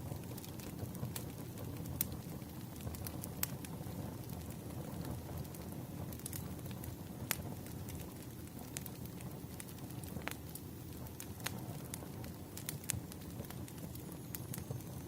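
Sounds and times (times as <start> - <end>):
low steady background noise: 0.0 - 15.0
wood fire crackling and popping: 0.0 - 15.0.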